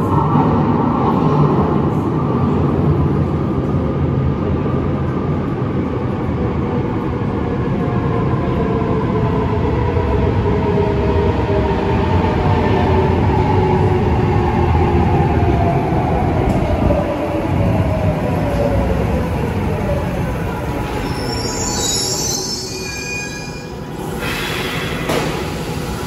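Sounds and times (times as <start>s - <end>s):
train rumbling in tunnel: 0.0s - 26.0s.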